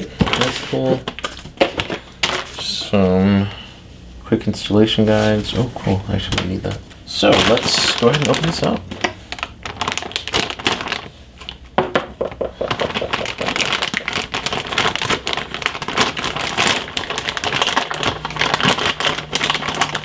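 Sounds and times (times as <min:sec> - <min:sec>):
cardboard packaging clicks and rustles: 0:00.0 - 0:02.9, 0:05.1 - 0:20.0.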